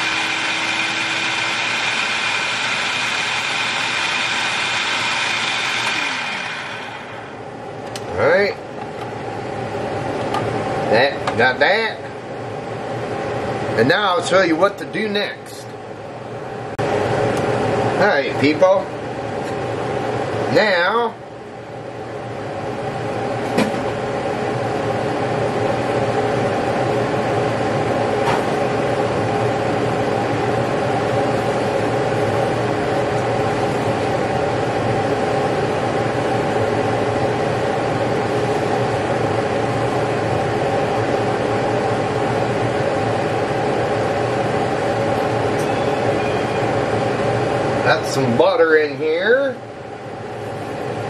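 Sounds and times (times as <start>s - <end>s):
fan motor hum: 0.0s - 51.0s.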